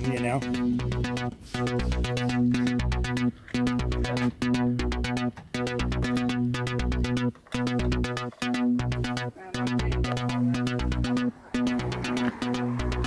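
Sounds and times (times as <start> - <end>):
electronic music with synthesizer: 0.0 - 13.0.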